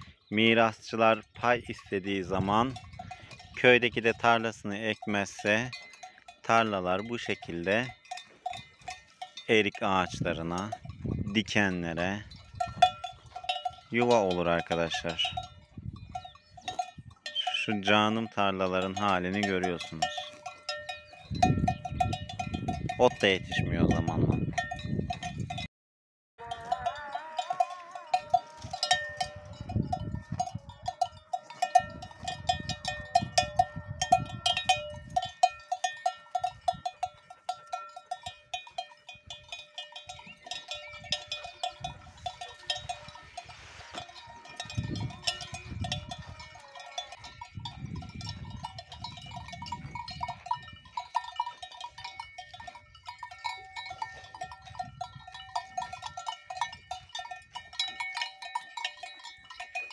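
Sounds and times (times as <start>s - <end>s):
cowbells clanking: 0.0s - 25.7s, 26.4s - 59.9s.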